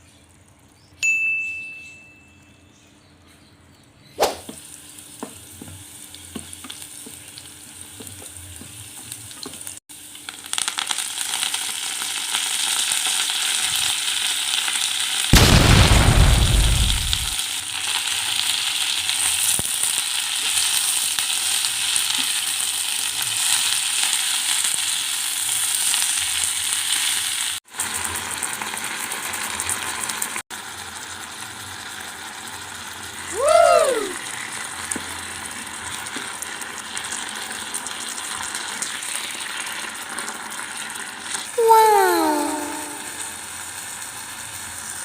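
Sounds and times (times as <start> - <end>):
food sizzling in a pan: 4.2 - 45.0.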